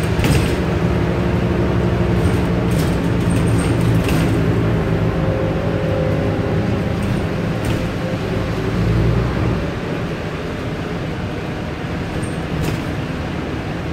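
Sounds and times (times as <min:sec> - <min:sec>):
bus engine hum: 0:00.0 - 0:13.9
road noise: 0:00.0 - 0:13.9.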